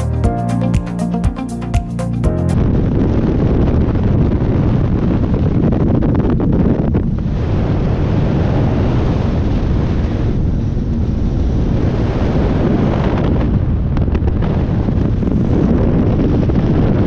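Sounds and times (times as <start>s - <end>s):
wind buffeting microphone: 2.6s - 17.0s.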